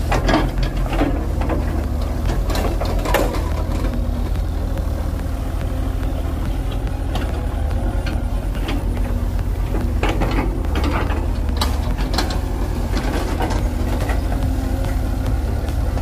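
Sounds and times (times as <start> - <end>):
diesel engines running: 0.0 - 16.0
excavator clanks and knocks: 0.0 - 16.0.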